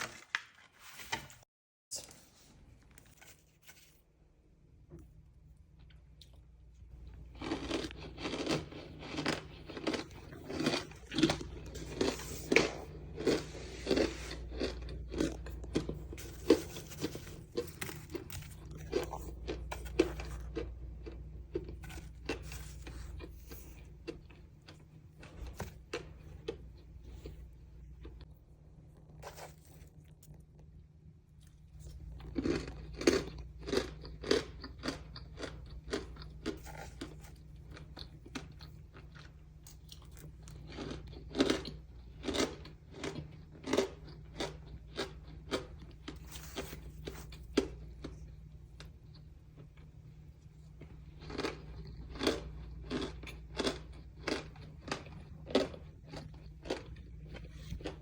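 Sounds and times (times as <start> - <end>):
crisp crunches of chewing: 7.0 - 28.3, 29.0 - 30.7, 31.3 - 50.0, 50.6 - 58.0.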